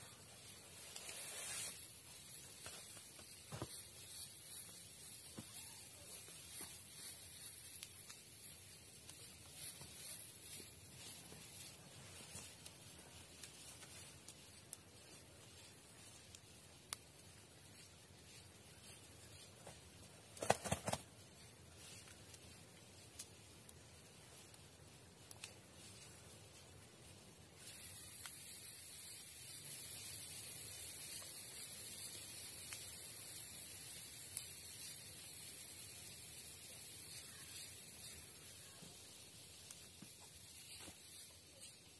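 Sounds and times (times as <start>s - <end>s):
high-pitched insect chorus: 0.0s - 41.9s.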